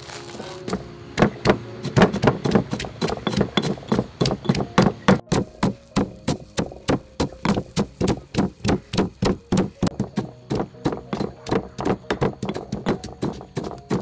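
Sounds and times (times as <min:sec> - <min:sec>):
pestles pounding in stone mortars: 0:00.7 - 0:14.0.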